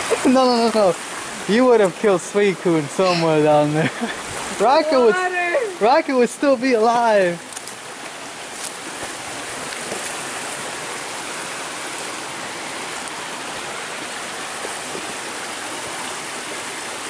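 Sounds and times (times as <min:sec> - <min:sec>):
creek water rushing over stones: 0:00.0 - 0:17.0.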